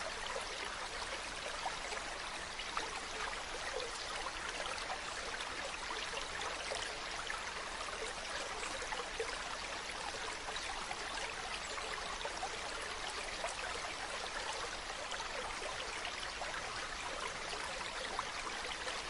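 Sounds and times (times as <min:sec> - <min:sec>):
stream water running over rocks: 0:00.0 - 0:19.0.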